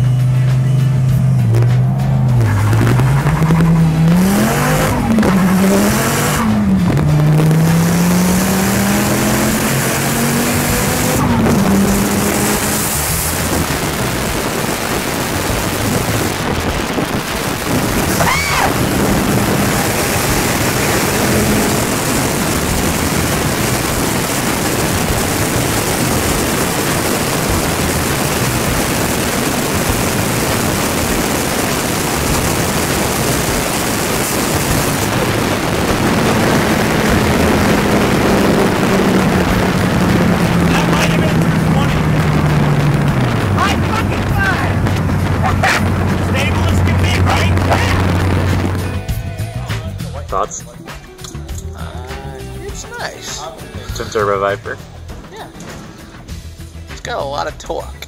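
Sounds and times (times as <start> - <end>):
sports car engine at full throttle: 0.0 - 56.9
rush of wind: 1.3 - 49.1.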